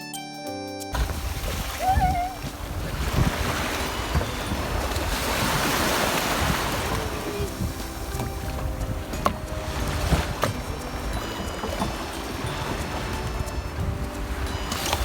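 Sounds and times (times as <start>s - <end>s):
surf breaking on shore: 1.0s - 15.0s
wind rumbling on microphone: 1.0s - 15.0s.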